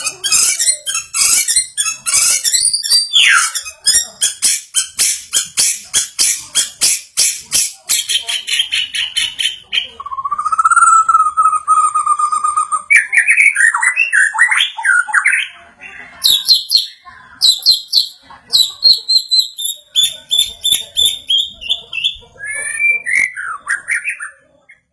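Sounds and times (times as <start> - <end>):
songbird whistling and warbling: 0.0 - 15.6, 16.2 - 24.9.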